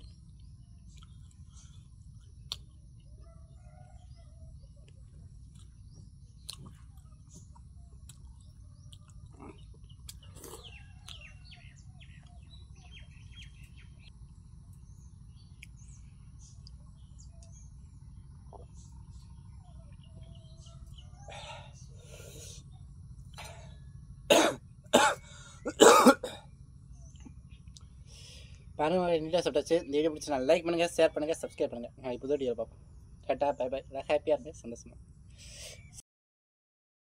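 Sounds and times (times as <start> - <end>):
steady low rumble: 0.0 - 35.6
birds chirping: 0.0 - 36.0.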